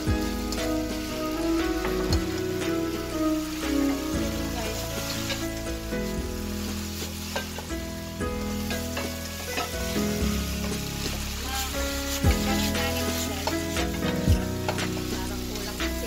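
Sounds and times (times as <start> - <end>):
background music with held chords: 0.0 - 16.0
noodles sizzling in a frying pan: 0.0 - 16.0.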